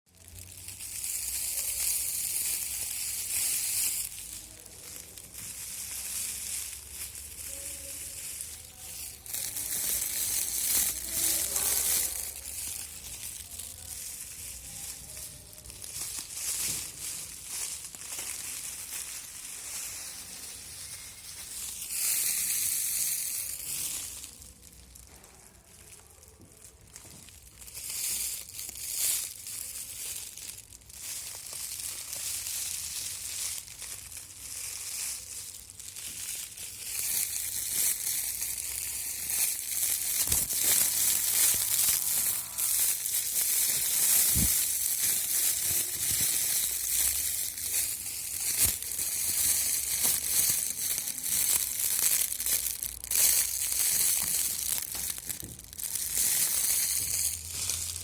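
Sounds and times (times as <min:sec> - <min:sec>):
crinkly material rustling: 0:00.1 - 0:58.0.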